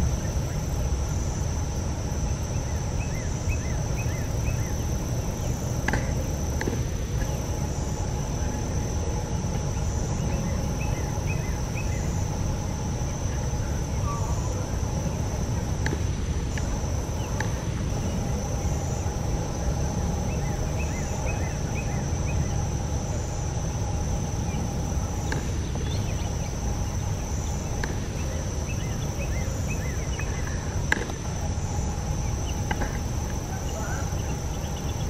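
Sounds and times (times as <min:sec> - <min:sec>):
insects droning: 0:00.0 - 0:35.0
low steady rumble: 0:00.0 - 0:35.0.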